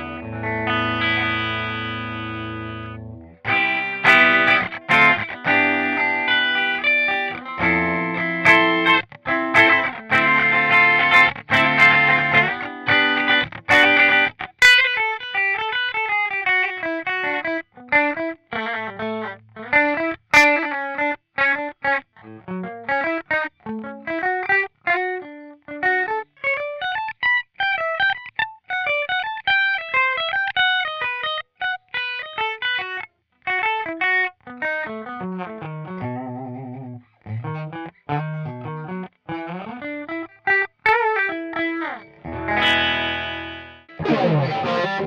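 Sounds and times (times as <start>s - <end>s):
clean electric guitar lead: 0.0s - 45.0s.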